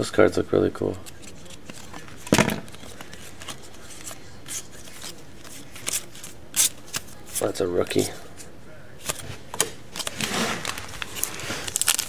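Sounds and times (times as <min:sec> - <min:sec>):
trading cards rustling and clicking: 0:00.8 - 0:08.1, 0:09.0 - 0:12.0.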